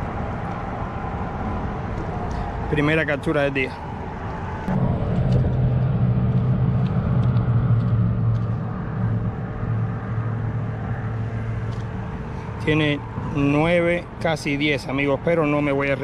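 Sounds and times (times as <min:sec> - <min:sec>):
low motor drone: 0:00.0 - 0:16.0.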